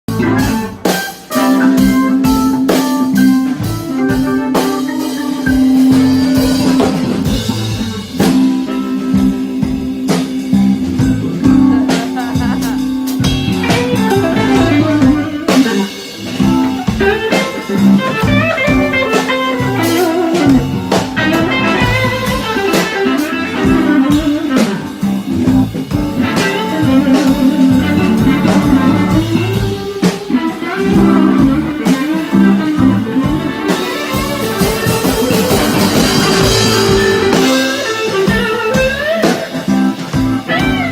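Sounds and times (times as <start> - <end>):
blues band playing: 0.0 - 40.9.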